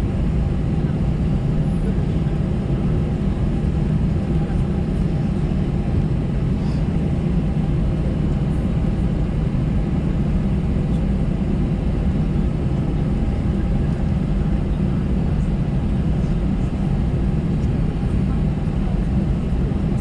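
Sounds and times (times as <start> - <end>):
aircraft cabin rumble and engine hum: 0.0 - 20.0.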